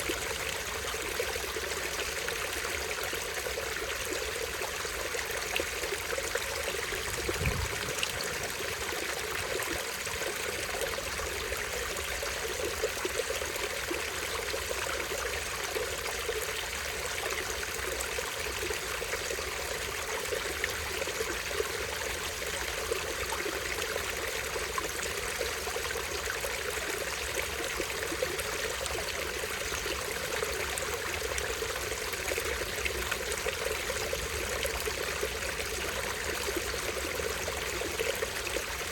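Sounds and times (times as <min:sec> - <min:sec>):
stream over small waterfall: 0:00.0 - 0:38.9.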